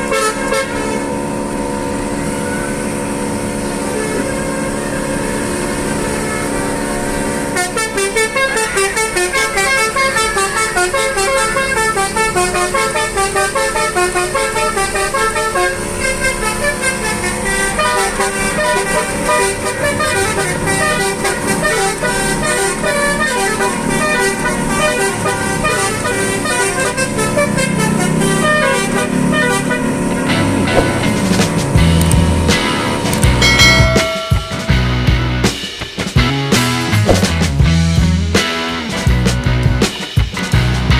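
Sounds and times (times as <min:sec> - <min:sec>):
multi-tone air horn playing a tune: 0:00.0 - 0:34.7.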